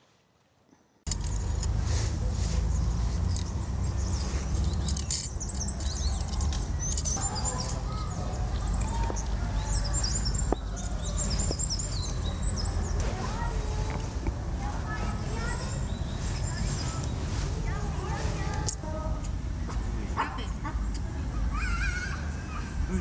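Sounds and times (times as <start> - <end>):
small birds chirping: 1.1 - 23.0.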